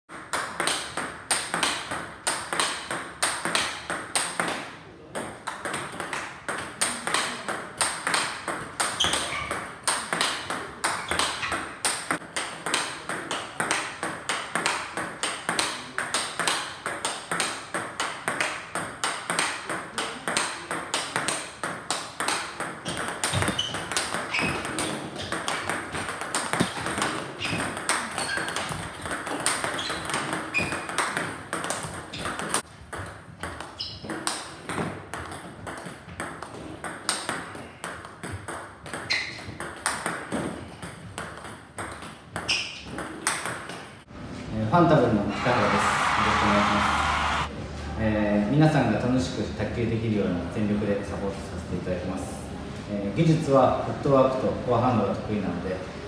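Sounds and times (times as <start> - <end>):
table tennis rally: 0.1 - 44.2, 44.8 - 51.2.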